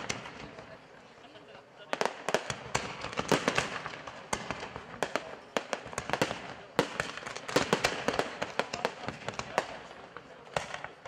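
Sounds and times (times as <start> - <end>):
firework bangs: 0.0 - 11.0
firework crackling: 0.0 - 11.0.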